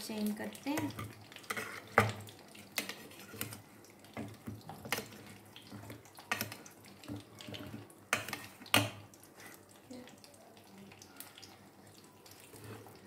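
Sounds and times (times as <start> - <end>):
oil popping and crackling: 0.0 - 13.0
oil sizzling in frying pan: 0.0 - 13.0.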